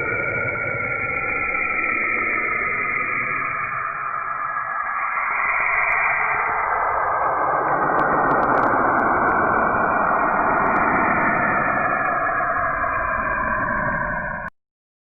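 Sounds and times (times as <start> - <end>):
dense rushing noise with held tones: 0.0 - 14.5.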